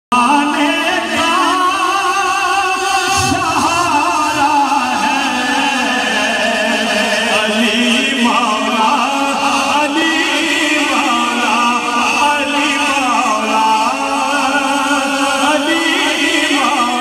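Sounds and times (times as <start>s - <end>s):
man singing into microphone: 0.1s - 17.0s.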